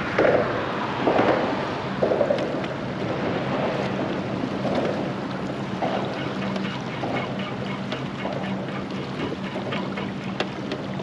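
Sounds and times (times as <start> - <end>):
water lapping against boat hull: 0.0 - 11.0
wind on microphone: 0.0 - 11.0.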